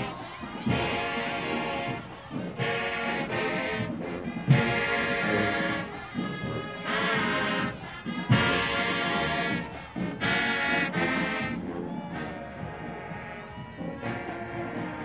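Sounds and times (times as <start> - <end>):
brass section playing chords: 0.0 - 15.0.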